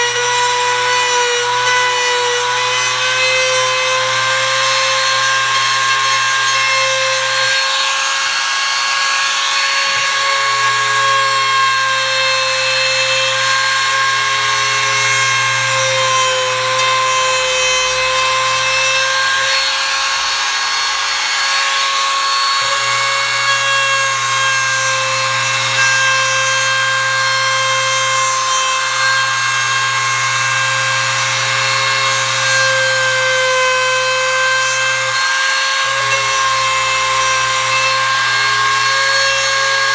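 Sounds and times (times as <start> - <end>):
electric router whining: 0.0 - 39.9
wood being cut hissing: 0.0 - 39.9.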